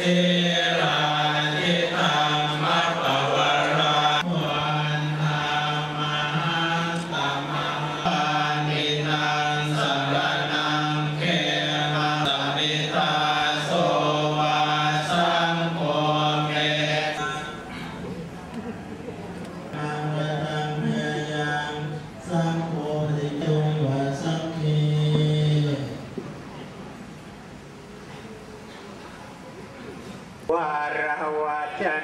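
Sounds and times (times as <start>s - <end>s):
monks chanting in monotone: 0.0s - 18.3s, 19.7s - 26.2s, 30.5s - 32.0s.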